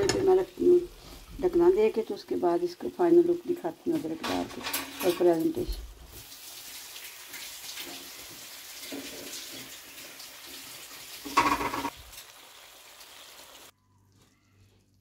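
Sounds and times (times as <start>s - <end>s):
food sizzling in a pan: 0.0s - 14.4s.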